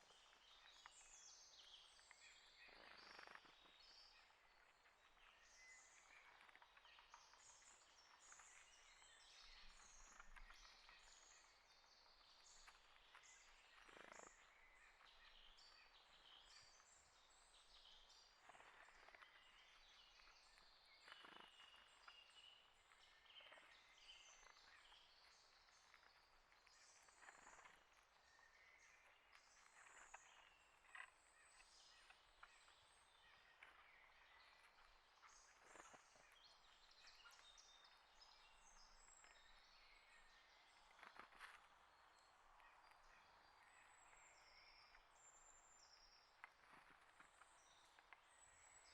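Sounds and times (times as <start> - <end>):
small songbirds chirping: 0.0 - 48.9.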